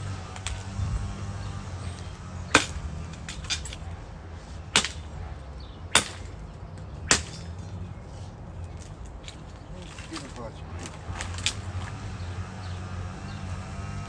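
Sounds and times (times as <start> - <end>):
tree limbs knocking: 0.0 - 7.9, 8.6 - 14.0.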